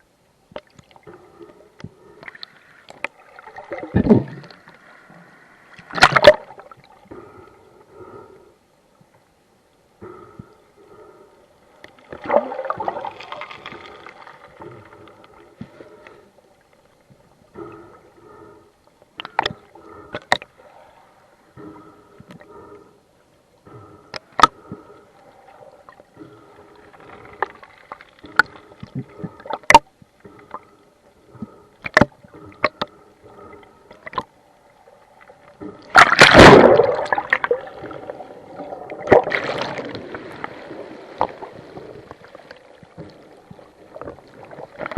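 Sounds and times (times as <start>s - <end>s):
water sloshing and gurgling: 0.4s - 8.3s, 10.0s - 23.0s, 23.6s - 44.9s.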